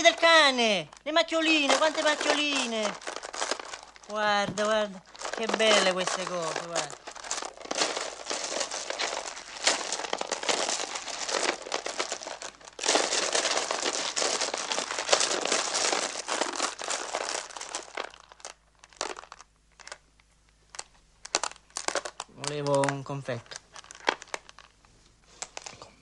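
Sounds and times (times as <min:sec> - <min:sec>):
wrappers crinkling and rustling: 0:00.0 - 0:26.0.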